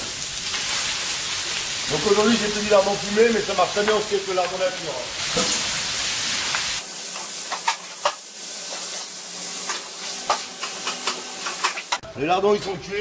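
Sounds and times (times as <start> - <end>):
bacon sizzling in a pan: 0.0 - 12.0.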